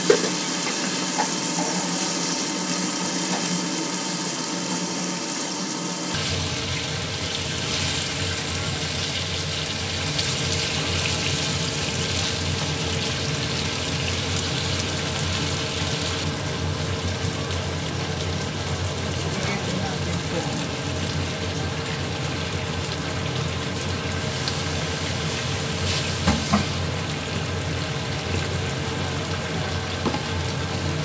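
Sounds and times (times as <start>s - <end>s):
chicken and onions sizzling in pan: 0.0s - 31.0s.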